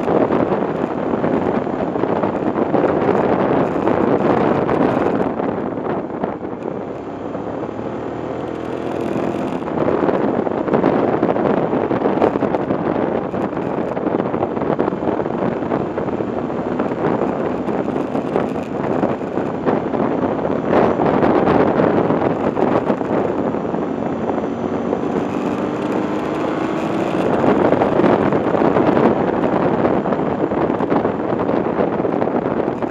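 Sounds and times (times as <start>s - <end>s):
vehicle engine running: 0.0s - 32.9s
wind rush: 0.0s - 32.9s.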